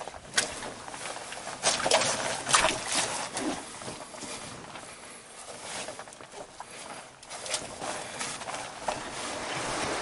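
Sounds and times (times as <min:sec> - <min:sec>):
footsteps crunching on forest trail: 0:00.0 - 0:09.8.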